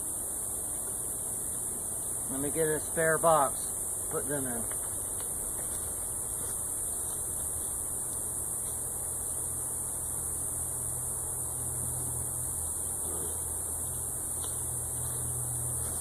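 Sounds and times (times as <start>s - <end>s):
high-pitched hiss: 0.0s - 16.0s
honeybees humming: 0.0s - 16.0s.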